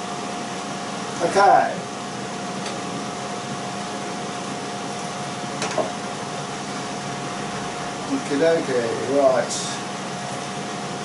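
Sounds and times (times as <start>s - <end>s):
extractor fan running: 0.0s - 11.0s.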